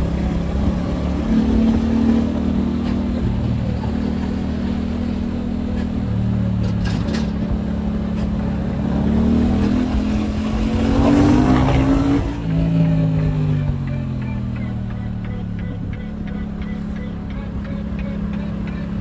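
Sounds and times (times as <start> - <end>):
motorcycle engine running under load: 0.0 - 19.0.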